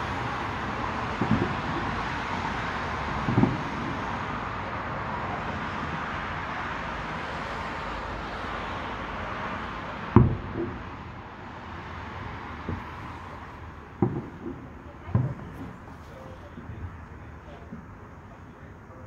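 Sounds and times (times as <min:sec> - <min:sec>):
distant fireworks bangs: 0:00.0 - 0:18.7
traffic noise: 0:00.0 - 0:19.0.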